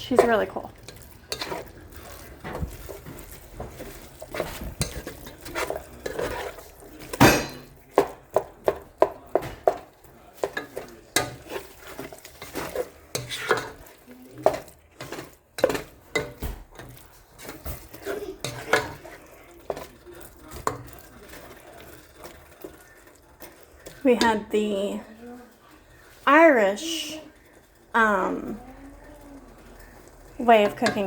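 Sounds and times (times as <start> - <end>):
utensil scraping in a pan: 0.0 - 31.0.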